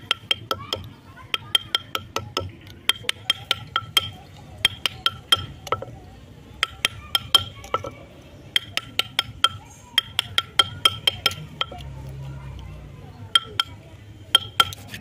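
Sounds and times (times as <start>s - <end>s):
chisel tapping metal bowl: 0.0s - 6.0s, 6.6s - 11.9s, 13.3s - 15.0s.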